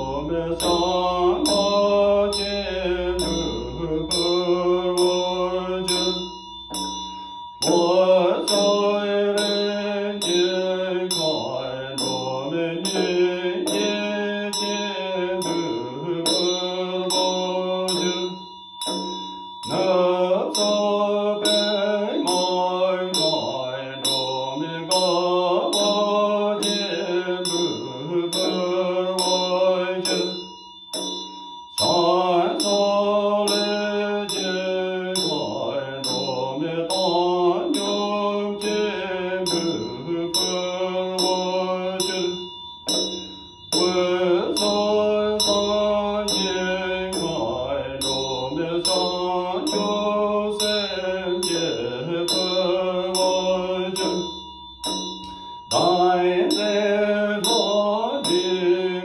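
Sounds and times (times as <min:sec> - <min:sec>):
man chanting melodically: 0:00.0 - 0:07.0, 0:07.6 - 0:30.5, 0:31.8 - 0:59.0.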